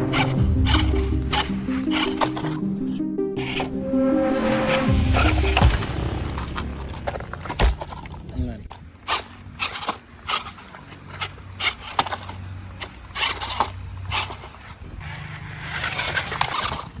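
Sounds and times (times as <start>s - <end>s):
tyres scraping on rocks: 0.0s - 2.6s, 4.4s - 17.0s.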